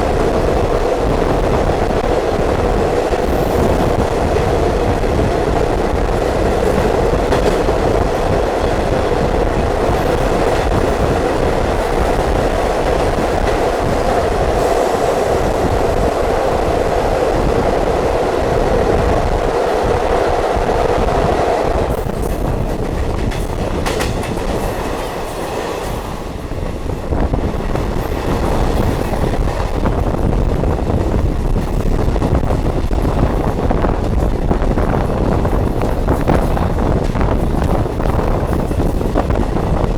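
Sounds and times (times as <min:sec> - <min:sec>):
train rumble and wheel clatter: 0:00.0 - 0:39.9.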